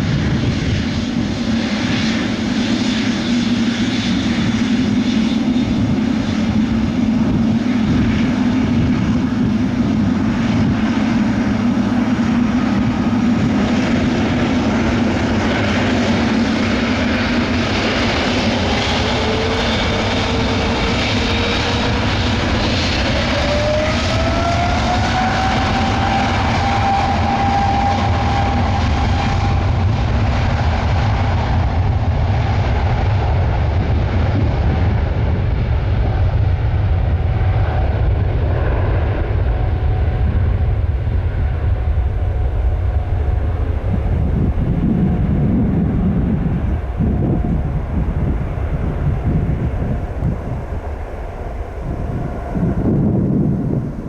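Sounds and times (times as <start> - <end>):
jet engine whine: 0.0 - 54.0
jet engines roaring: 0.0 - 54.0.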